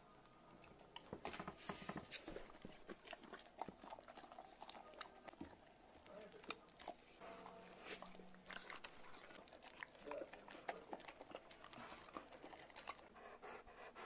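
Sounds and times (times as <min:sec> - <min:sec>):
dog chewing: 0:00.0 - 0:14.0.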